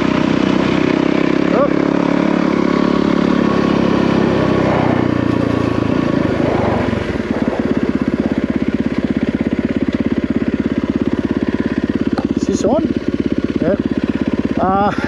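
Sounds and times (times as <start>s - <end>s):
dirt bike engine revving and idling: 0.0s - 15.0s.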